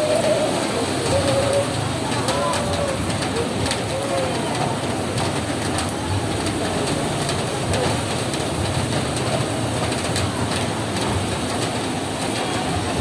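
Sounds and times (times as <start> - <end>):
heavy rain on a roof: 0.0 - 13.0.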